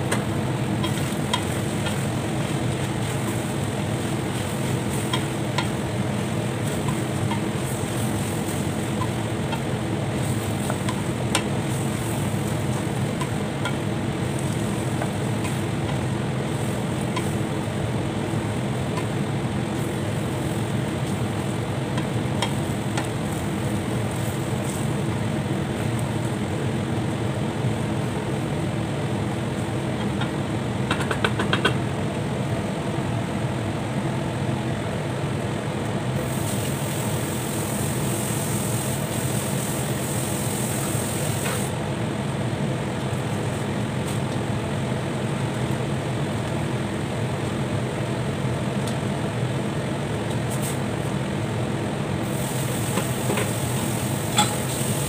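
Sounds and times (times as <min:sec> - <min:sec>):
mechanical motor hum: 0:00.0 - 0:55.0.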